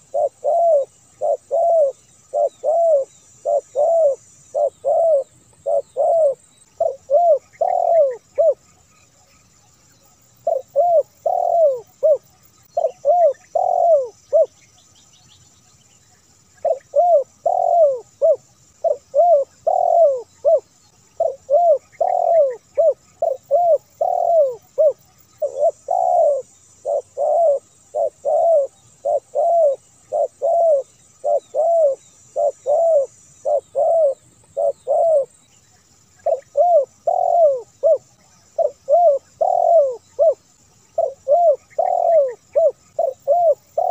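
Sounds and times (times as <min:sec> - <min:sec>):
dove cooing: 0:00.0 - 0:08.9, 0:10.3 - 0:14.6, 0:16.6 - 0:35.3, 0:36.2 - 0:43.9.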